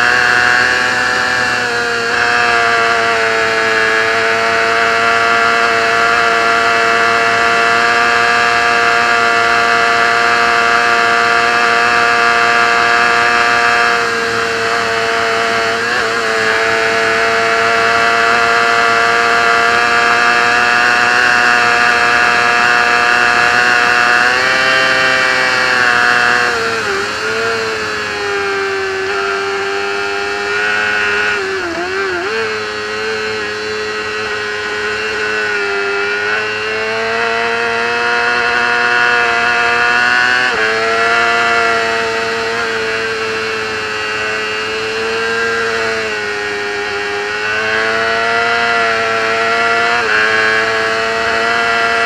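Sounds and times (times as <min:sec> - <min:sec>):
racing motorcycle engine revving: 0:00.0 - 0:52.0.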